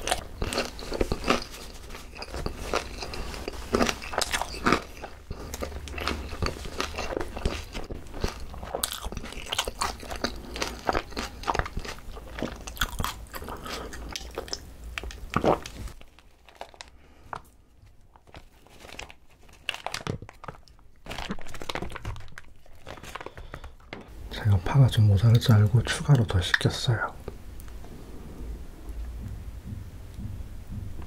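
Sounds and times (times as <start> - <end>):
crunching fried chicken: 0.0 - 26.7.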